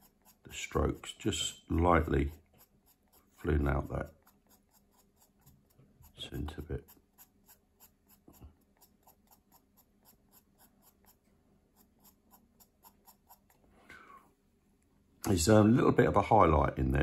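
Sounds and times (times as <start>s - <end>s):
pencil scratching on paper: 0.0s - 13.7s.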